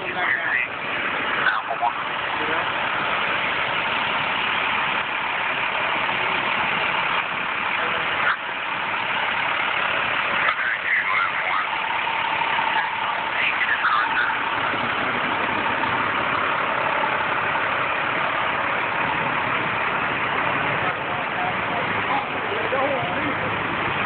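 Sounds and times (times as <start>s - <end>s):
diesel truck engine idling: 0.0s - 24.0s
faint voices: 0.0s - 24.0s
floodwater rushing over street: 0.0s - 24.0s.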